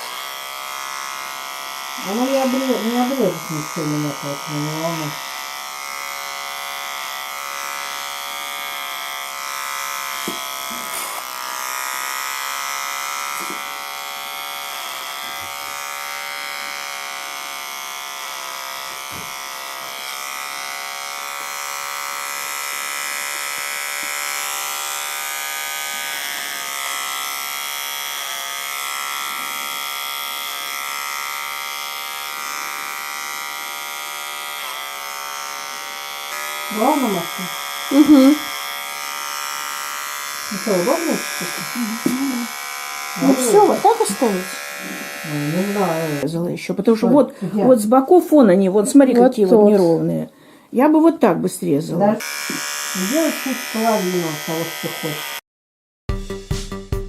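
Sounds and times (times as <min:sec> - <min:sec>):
electric hair clipper buzzing: 0:00.0 - 0:48.2, 0:51.8 - 0:55.4.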